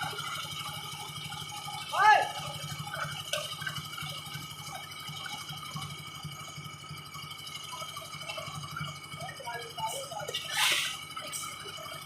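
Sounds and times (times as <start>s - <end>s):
concrete mixer engine chugging: 0.0s - 12.0s.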